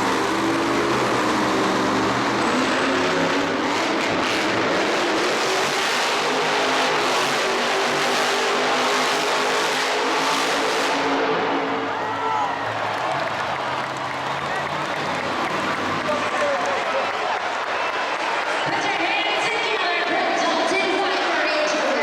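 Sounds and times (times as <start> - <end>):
arena noise: 0.0 - 22.0.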